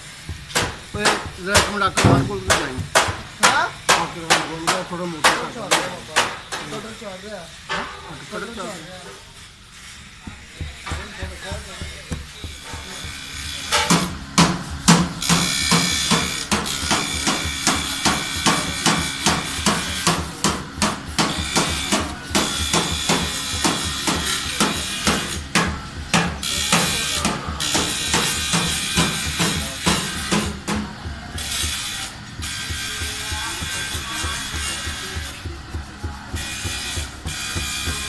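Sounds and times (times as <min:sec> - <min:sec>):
music with driving drum beat: 0:00.0 - 0:03.6, 0:10.3 - 0:38.0.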